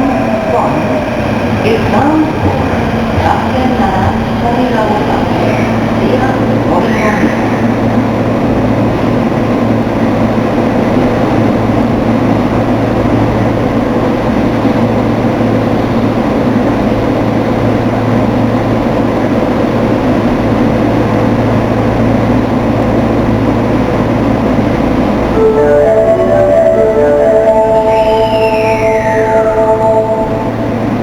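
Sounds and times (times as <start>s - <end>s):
subway train rumbling hum: 0.0s - 31.0s.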